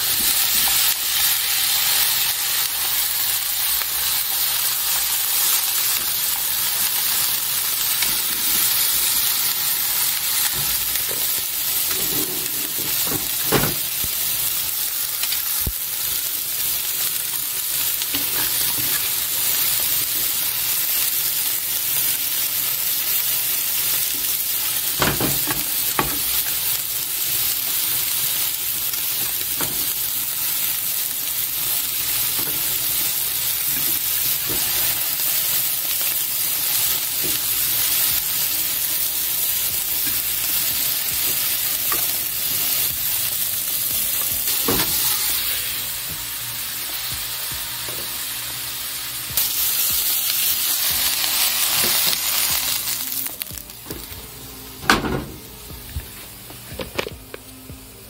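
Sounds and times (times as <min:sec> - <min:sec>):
food sizzling in frying pans: 0:00.0 - 0:58.0.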